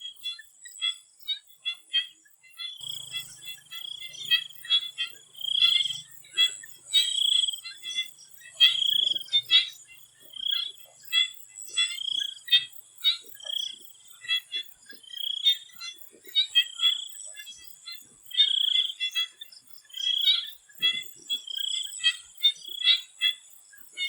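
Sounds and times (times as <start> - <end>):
frogs calling in chorus: 0.1 - 24.0.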